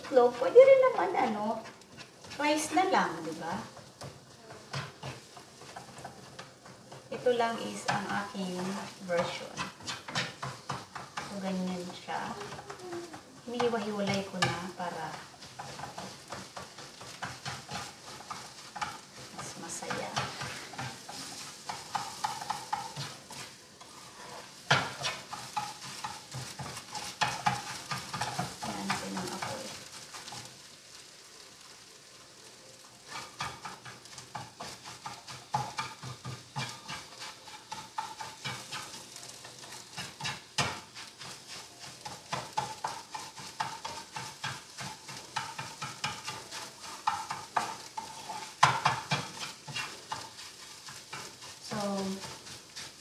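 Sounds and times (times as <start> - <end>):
frying sizzle: 0.0 - 53.0
spatula scraping frying pan: 0.0 - 53.0.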